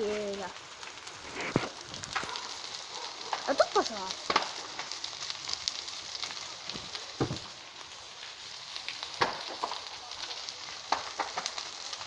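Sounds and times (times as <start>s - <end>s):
fire popping: 0.0s - 12.0s
large fire crackling: 0.0s - 12.0s.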